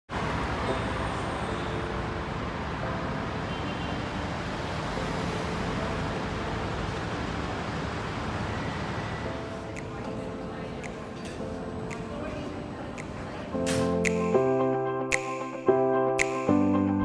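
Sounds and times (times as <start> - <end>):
vehicle rush and rumble: 0.1 - 13.8.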